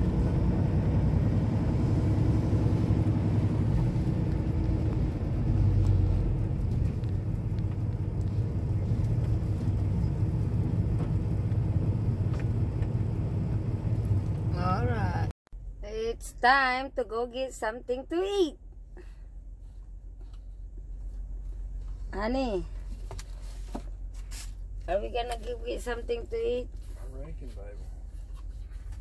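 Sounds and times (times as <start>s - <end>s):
truck diesel engine hum: 0.0s - 29.0s.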